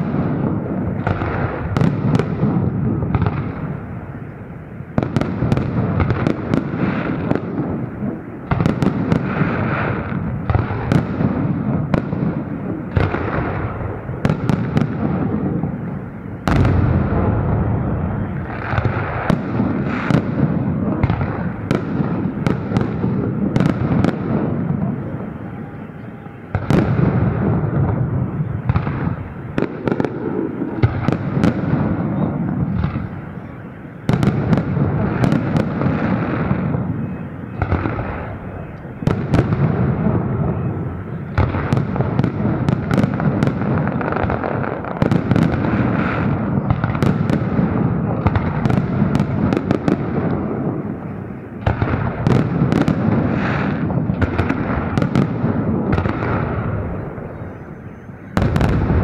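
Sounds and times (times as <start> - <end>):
fireworks bursts and bangs: 0.0 - 59.0.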